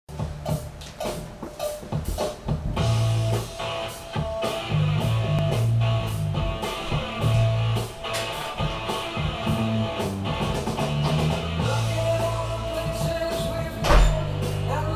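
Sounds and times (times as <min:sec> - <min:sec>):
drum kit: 0:00.1 - 0:14.9
strummed electric guitar: 0:02.7 - 0:14.9.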